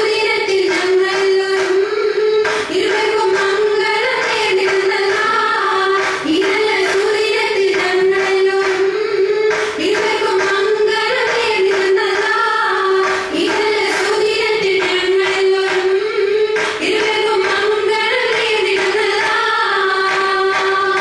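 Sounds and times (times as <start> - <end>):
hand claps: 0.0 - 21.0
voices singing wavering melody: 0.0 - 21.0.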